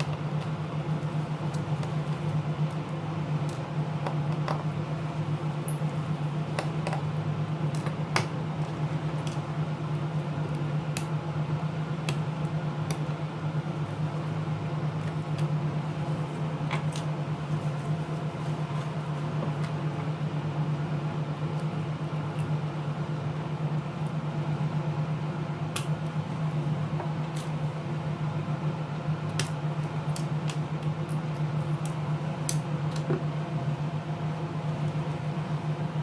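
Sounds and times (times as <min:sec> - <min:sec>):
fan or motor humming: 0:00.0 - 0:36.0.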